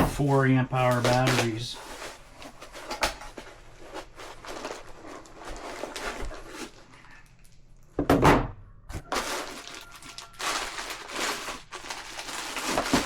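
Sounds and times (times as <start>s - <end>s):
packing rustling and shuffling: 0.0s - 7.6s, 8.9s - 13.0s.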